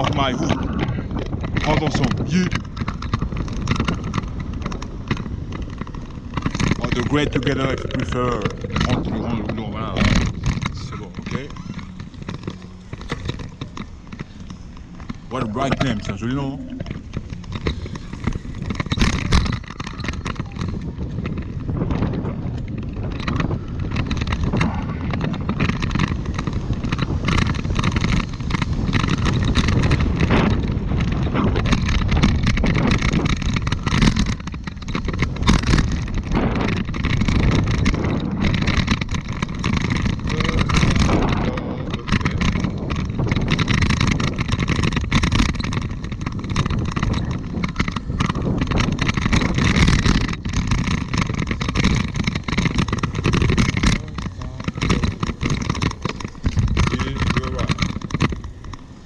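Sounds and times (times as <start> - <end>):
bicycle frame rattling: 0.0 - 59.0
bicycle tyre noise: 0.0 - 59.0
wind rumbling on microphone: 0.0 - 59.0.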